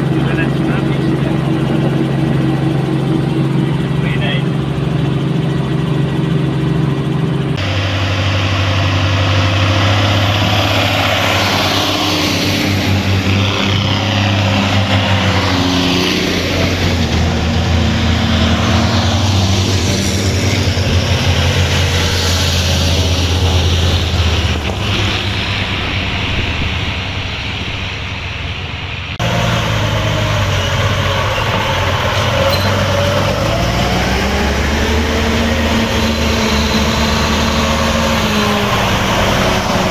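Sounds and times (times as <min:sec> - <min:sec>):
military vehicle engines running: 0:00.0 - 0:39.9.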